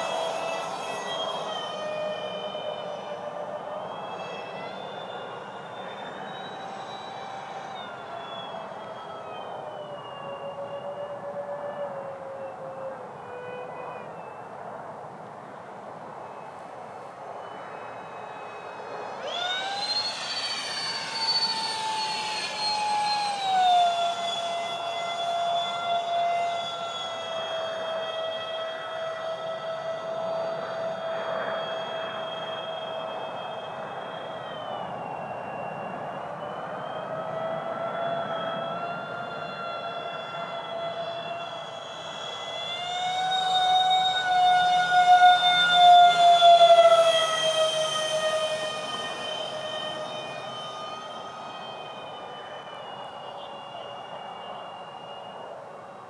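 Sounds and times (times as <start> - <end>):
model jet electric fans whining: 0.0 - 56.0.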